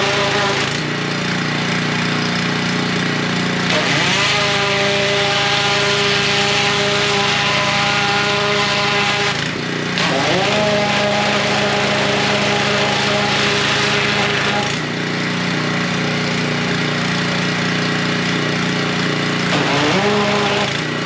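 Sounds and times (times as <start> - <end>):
hissing water spray: 0.0 - 21.0
pressure washer engine running: 0.0 - 21.0.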